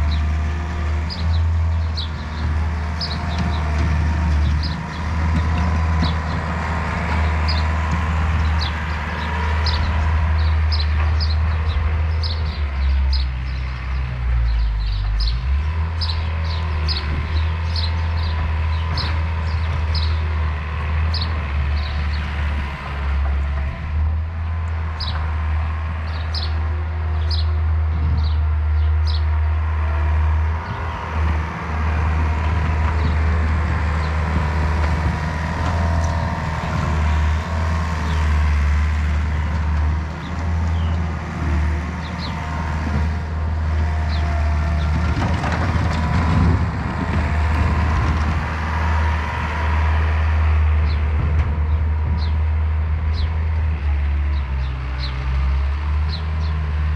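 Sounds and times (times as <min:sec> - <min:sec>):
vehicle engine humming: 0:00.0 - 0:56.9.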